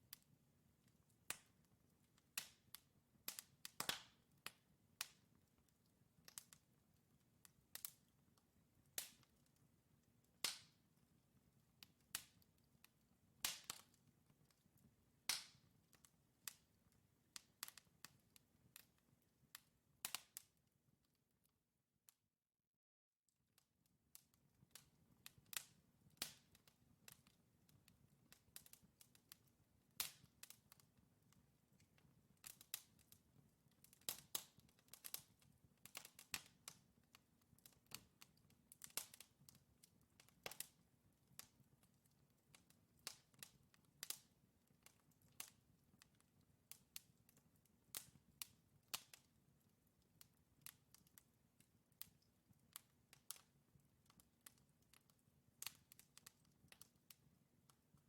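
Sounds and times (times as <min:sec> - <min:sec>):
wood fire crackling: 0:00.0 - 0:20.7, 0:24.1 - 0:58.0.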